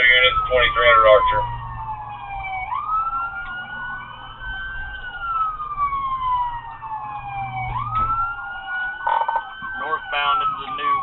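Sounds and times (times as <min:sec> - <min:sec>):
engine and road noise: 0:00.0 - 0:11.0
police siren wailing: 0:00.0 - 0:11.0.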